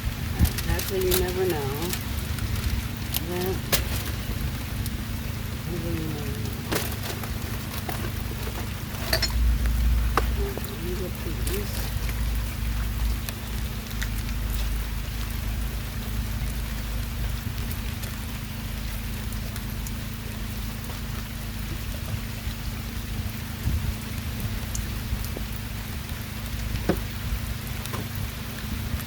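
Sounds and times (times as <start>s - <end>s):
constant low hum: 0.0s - 29.0s
steady rain falling: 0.0s - 29.0s.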